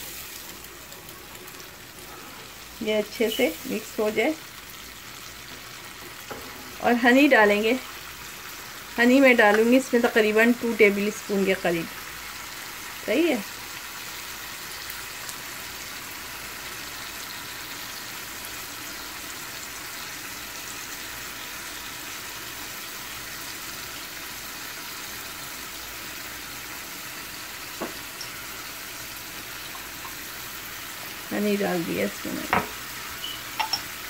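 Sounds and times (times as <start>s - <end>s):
wings sizzling in hot oil: 0.0s - 34.0s.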